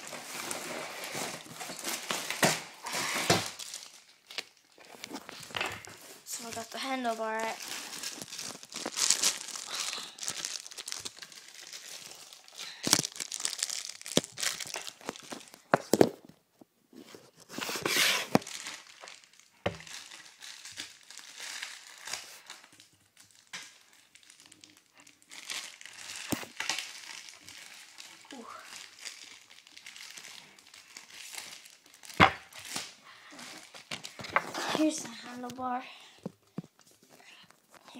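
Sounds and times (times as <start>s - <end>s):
plastic wrap crinkling and tearing: 0.0s - 16.4s, 17.0s - 37.9s.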